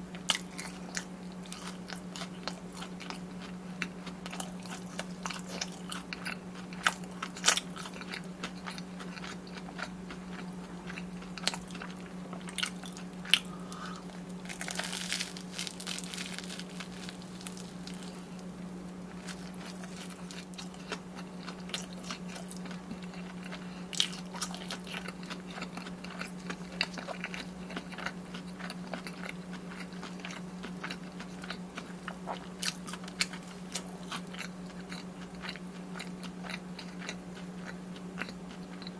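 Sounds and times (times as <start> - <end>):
crunchy biting and chewing: 0.0 - 38.9
steady low hum: 0.0 - 38.9.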